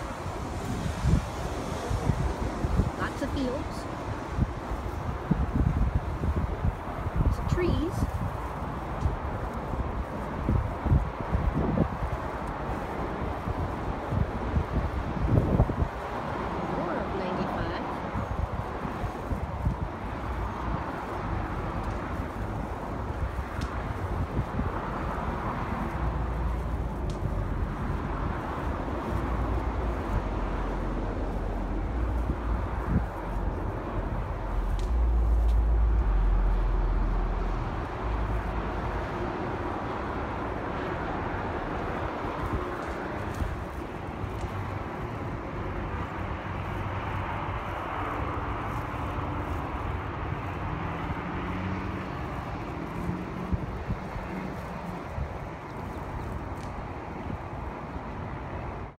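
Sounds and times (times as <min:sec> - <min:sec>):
distant highway traffic: 0:00.0 - 0:58.9
wind buffeting microphone: 0:00.0 - 0:58.9.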